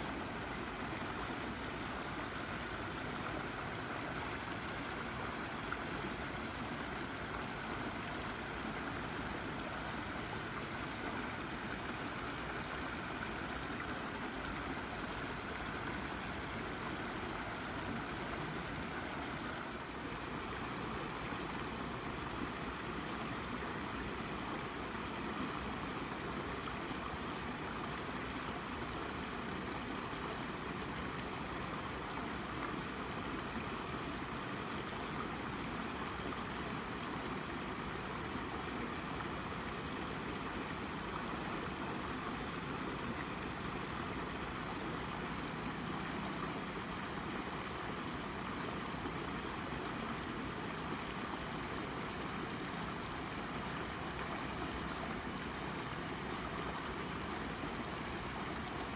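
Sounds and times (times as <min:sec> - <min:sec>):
brook trickling over rock: 0:00.0 - 0:58.9.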